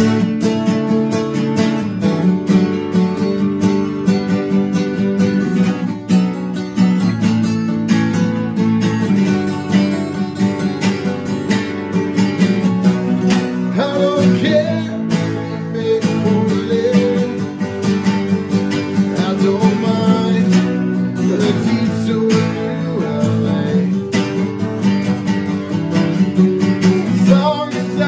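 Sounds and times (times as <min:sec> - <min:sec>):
acoustic guitars strumming chords: 0:00.0 - 0:28.0.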